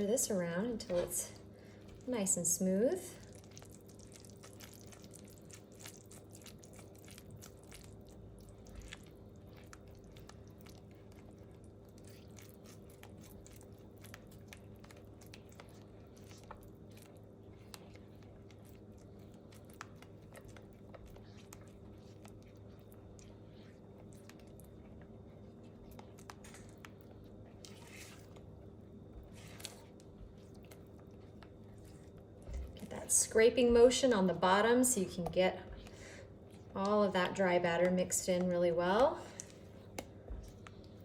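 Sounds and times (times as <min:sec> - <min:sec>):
utensil stirring thick batter: 0:00.0 - 0:41.0.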